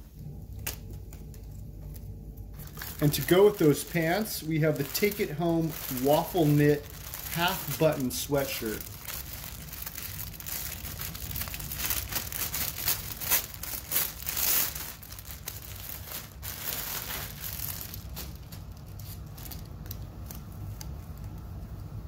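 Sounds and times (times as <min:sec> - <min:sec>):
plastic bag crinkling: 0:00.3 - 0:21.6.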